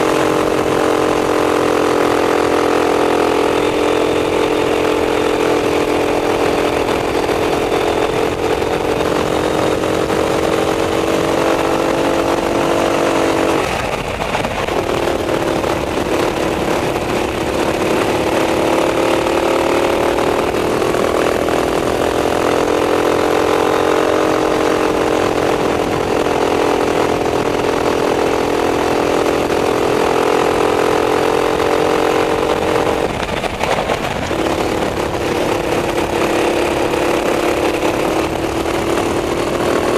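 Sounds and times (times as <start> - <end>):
racing kart engine at high revs: 0.0 - 39.9.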